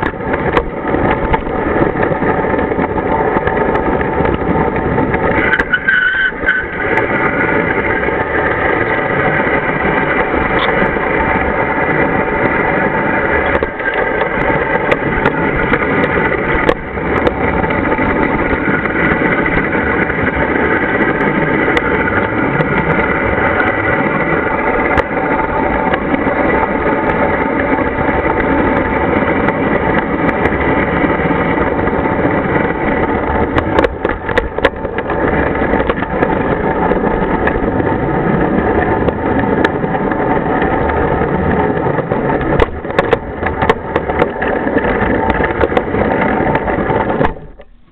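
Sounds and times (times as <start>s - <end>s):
model locomotive drive whine: 0.0s - 47.9s
wheels rumbling on rail: 0.0s - 47.9s.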